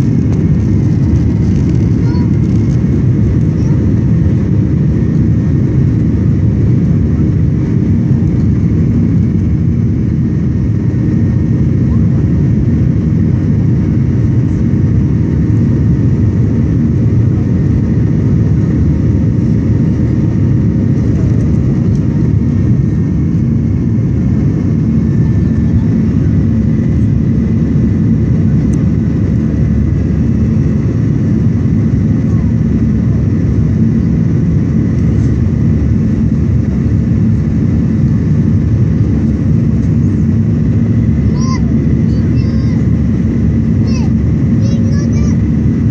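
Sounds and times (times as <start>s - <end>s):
airplane cabin engine noise: 0.0s - 45.9s.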